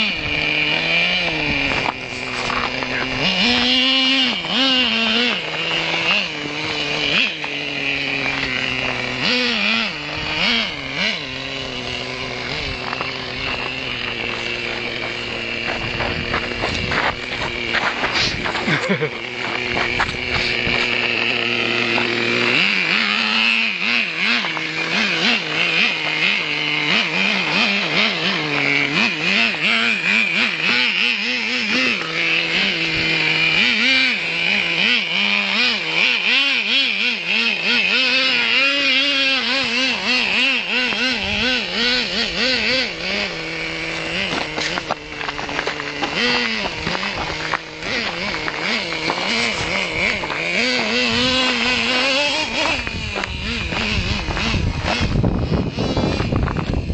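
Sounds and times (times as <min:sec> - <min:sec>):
rc truck engine revving: 0:00.0 - 0:56.9.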